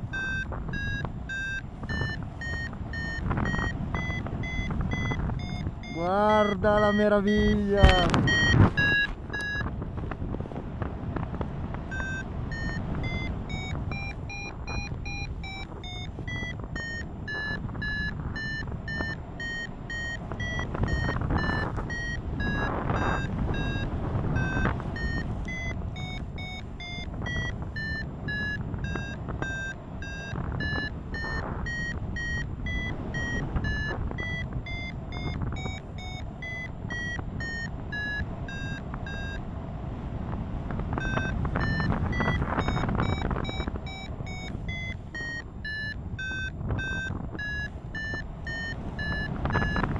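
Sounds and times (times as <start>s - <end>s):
variometer beeping: 0.0s - 49.9s
wind on microphone: 0.0s - 49.9s.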